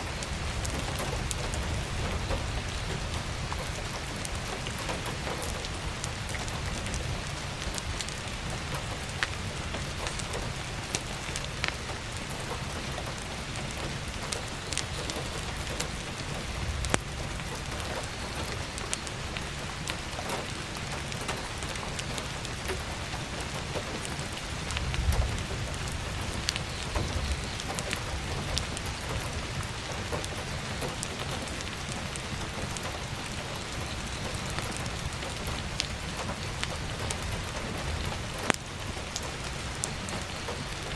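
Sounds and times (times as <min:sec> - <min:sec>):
burning firewood crackling: 0:00.0 - 0:40.9
heavy rain on skylight: 0:00.0 - 0:40.9.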